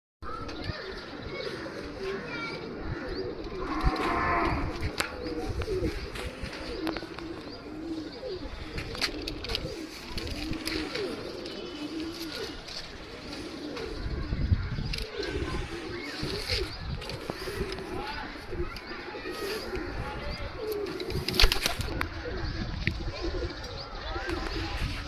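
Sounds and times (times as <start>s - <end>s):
pigeons cooing: 0.3s - 25.0s.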